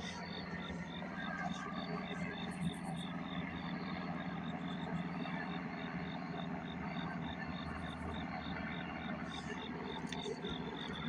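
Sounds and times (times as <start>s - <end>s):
crickets chirping: 0.0s - 11.0s
distant helicopter drone: 0.0s - 11.0s.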